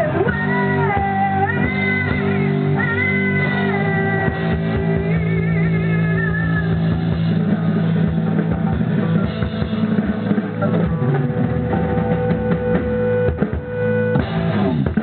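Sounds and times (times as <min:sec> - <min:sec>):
bass guitar: 0:00.0 - 0:15.0
electric guitar: 0:00.0 - 0:15.0
rock band playing: 0:00.0 - 0:15.0.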